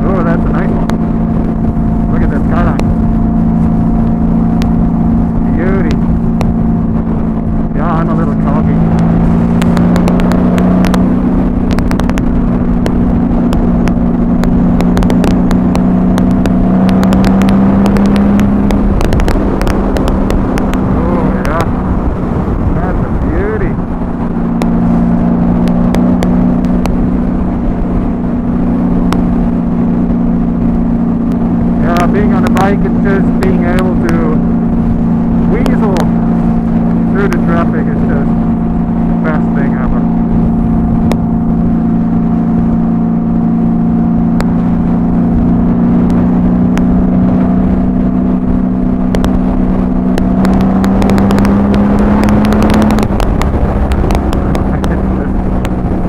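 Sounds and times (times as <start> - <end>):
motorcycle engine cruising: 0.0 - 56.0
wind rushing over microphone: 0.0 - 56.0
crackles: 0.4 - 56.0.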